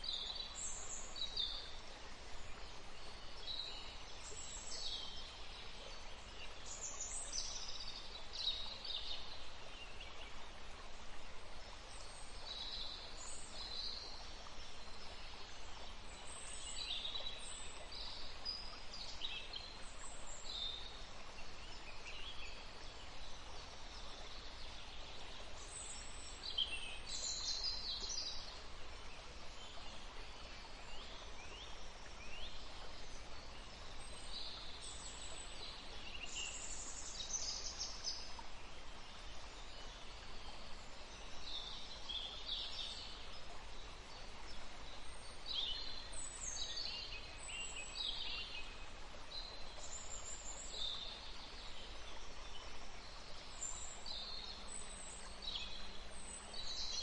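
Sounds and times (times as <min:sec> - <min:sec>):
soft background hiss: 0:00.0 - 0:57.0.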